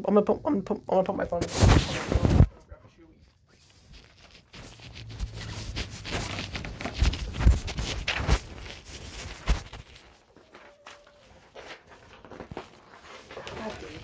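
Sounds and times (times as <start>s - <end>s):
muffled footsteps: 1.0s - 14.0s
clothing rustling over microphone: 1.3s - 2.6s, 3.2s - 14.0s.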